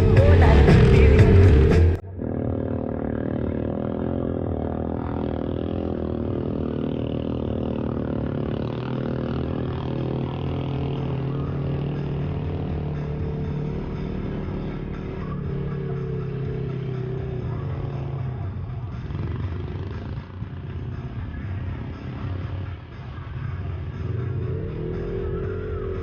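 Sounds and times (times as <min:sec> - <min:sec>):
vehicle engine running steadily: 0:00.0 - 0:26.0.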